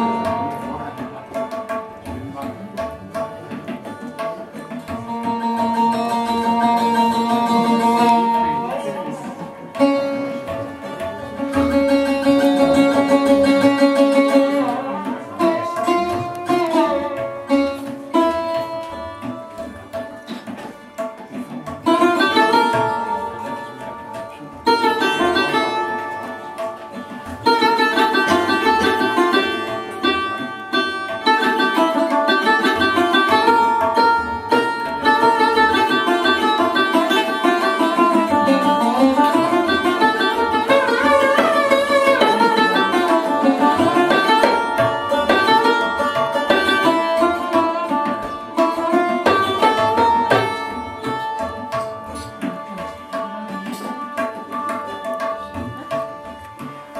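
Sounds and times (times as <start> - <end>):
plucked lute melody: 0.0 - 56.9
tabla strokes: 0.0 - 56.9.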